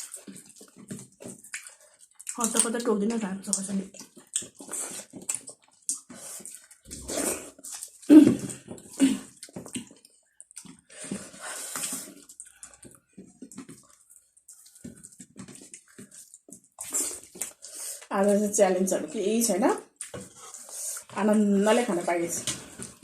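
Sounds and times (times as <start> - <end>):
wet chewing and mouth smacking: 0.0 - 18.4, 19.8 - 21.2.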